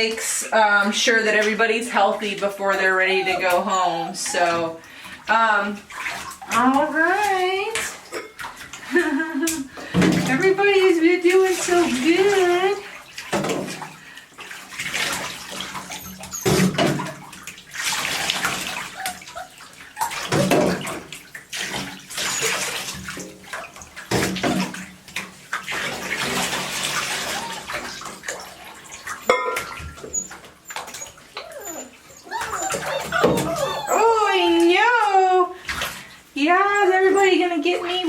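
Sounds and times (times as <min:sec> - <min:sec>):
water splashing in a tub: 0:00.0 - 0:38.0.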